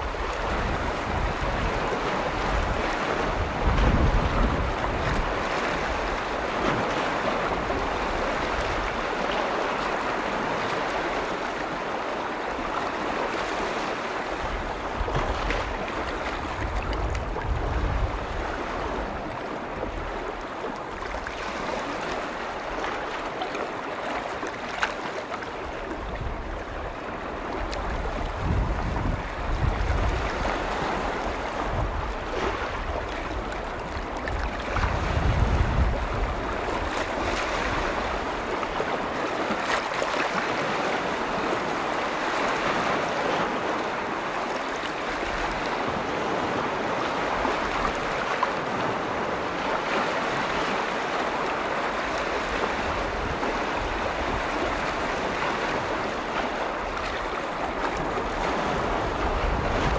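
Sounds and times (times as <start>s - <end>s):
wind buffeting microphone: 0.0s - 11.8s, 14.2s - 21.4s, 25.6s - 59.9s
waves washing against shore: 0.0s - 59.9s.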